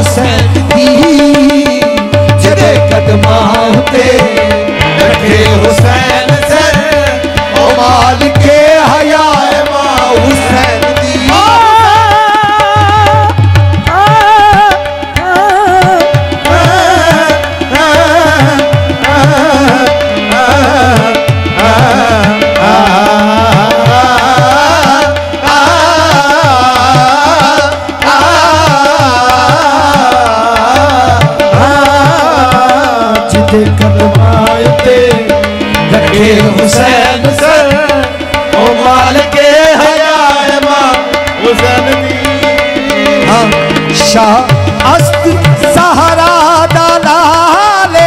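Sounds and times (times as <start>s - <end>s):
harmonium: 0.0s - 48.0s
man singing ornamented melody: 0.0s - 48.0s
tabla beat: 0.0s - 48.0s.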